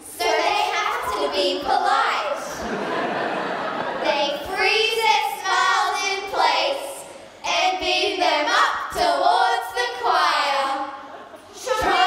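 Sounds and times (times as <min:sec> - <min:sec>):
girls singing badly together: 0:00.0 - 0:02.6, 0:04.0 - 0:12.0.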